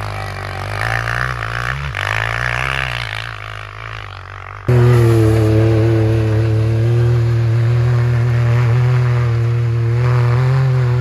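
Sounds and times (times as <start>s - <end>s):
engine running hard: 0.0s - 11.0s.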